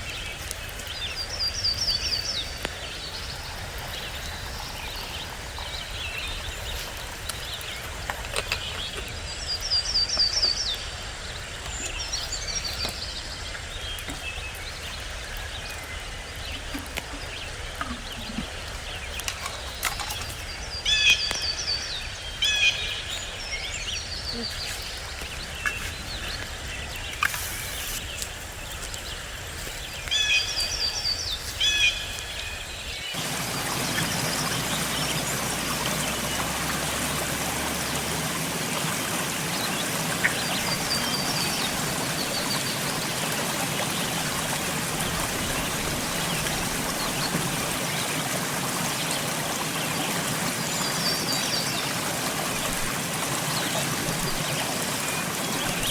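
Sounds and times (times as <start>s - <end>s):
birds chirping: 0.0s - 55.9s
flowing stream: 0.0s - 55.9s.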